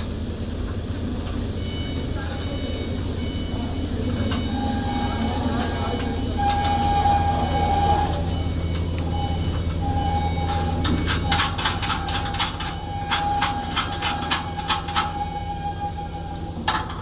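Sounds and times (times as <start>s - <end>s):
electrical machinery hum: 0.0s - 17.0s.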